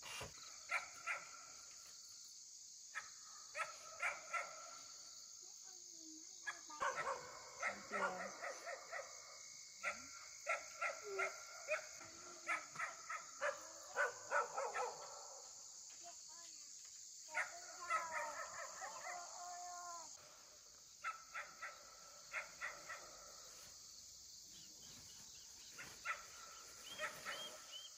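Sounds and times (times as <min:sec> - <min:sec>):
high drone of insects: 0:00.0 - 0:27.9.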